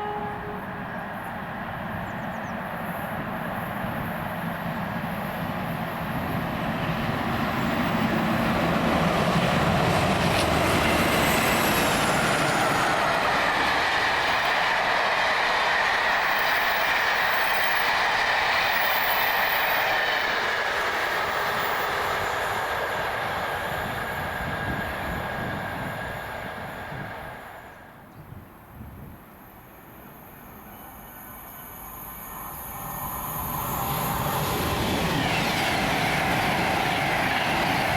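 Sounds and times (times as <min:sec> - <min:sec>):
high squeal from train wheels: 0:00.0 - 0:28.0, 0:29.0 - 0:37.9
train passing on rails: 0:00.0 - 0:37.9.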